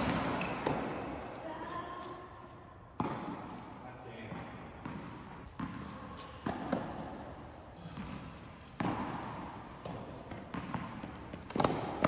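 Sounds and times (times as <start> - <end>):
tennis racket hitting ball: 0.0 - 1.2, 3.0 - 3.7, 4.3 - 12.0
ball bouncing on hard court: 0.0 - 1.4, 2.9 - 12.0.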